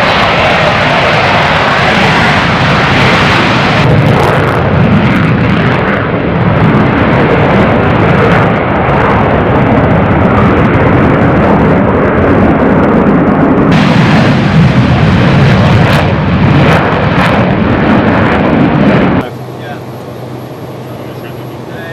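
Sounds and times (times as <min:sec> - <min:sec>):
fighter jet engine noise: 0:00.0 - 0:21.9.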